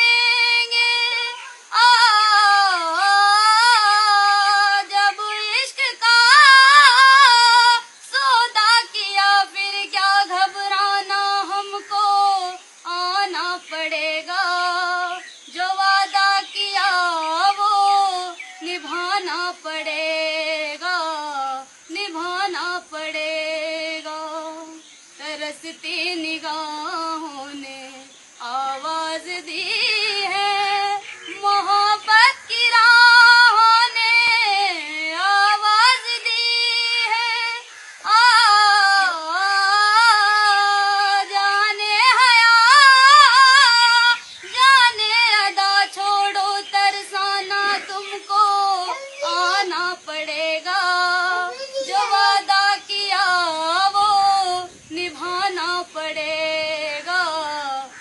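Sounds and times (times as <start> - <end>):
woman singing unaccompanied: 0.0 - 58.0.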